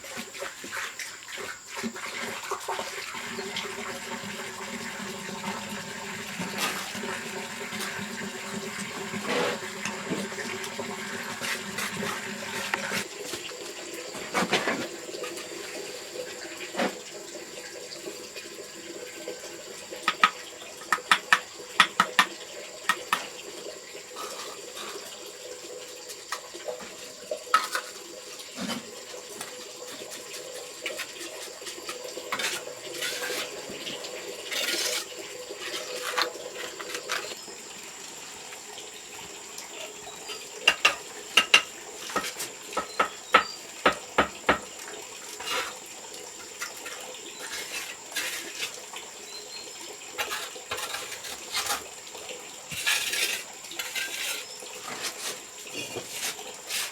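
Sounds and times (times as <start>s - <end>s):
running water: 0.0s - 56.9s.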